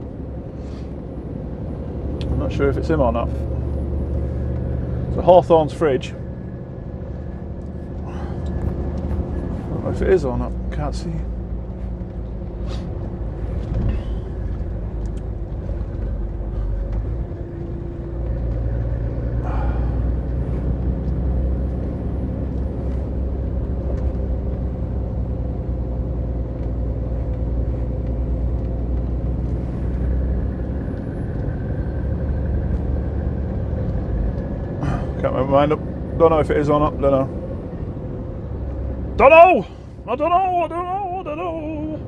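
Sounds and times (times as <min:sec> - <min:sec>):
lorry diesel engine droning: 0:00.0 - 0:42.0.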